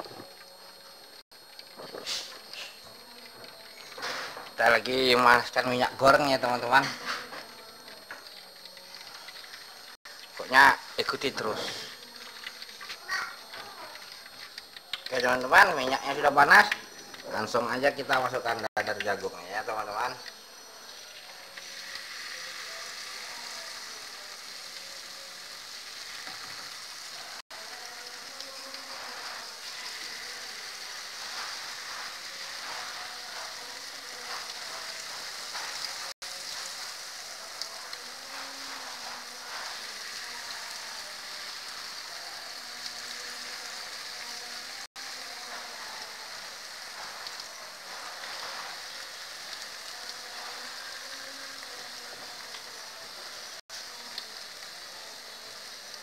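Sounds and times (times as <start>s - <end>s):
batter deep-frying in hot oil: 0.0s - 56.0s.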